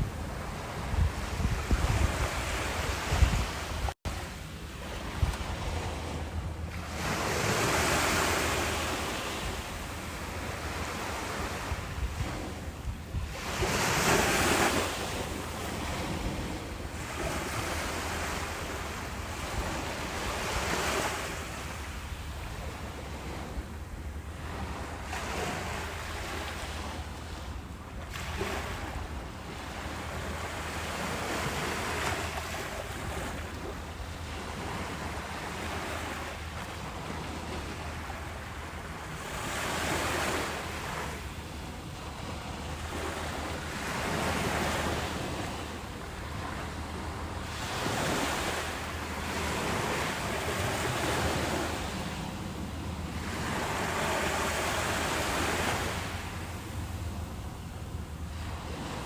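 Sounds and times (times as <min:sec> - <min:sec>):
ocean waves breaking: 0:00.0 - 0:59.0
wind rumble on microphone: 0:00.0 - 0:59.0.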